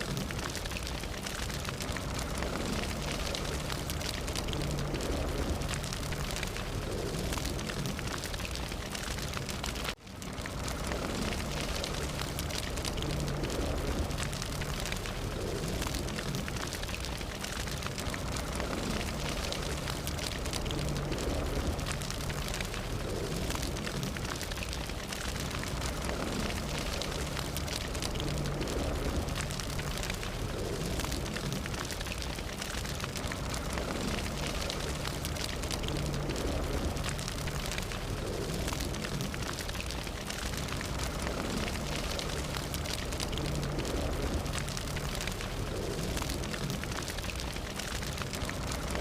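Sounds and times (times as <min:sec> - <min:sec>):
fire crackling and popping: 0:00.0 - 0:49.0
low rumble: 0:00.0 - 0:49.0.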